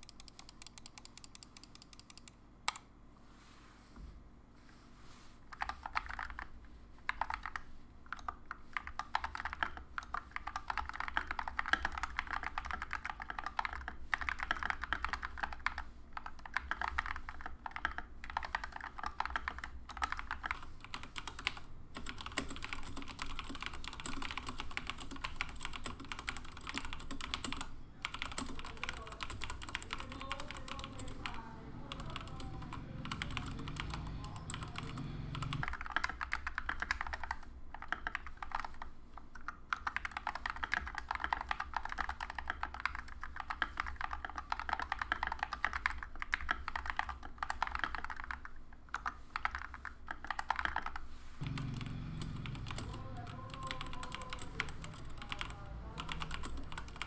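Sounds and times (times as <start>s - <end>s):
fast typing on mechanical keyboard: 0.0s - 2.3s, 5.5s - 57.0s.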